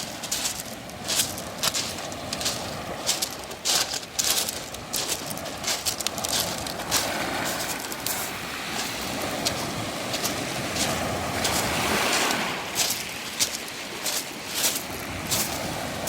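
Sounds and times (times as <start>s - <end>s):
footsteps crunching on pebbles: 0.0s - 16.0s
surf washing up pebble beach: 0.0s - 16.0s.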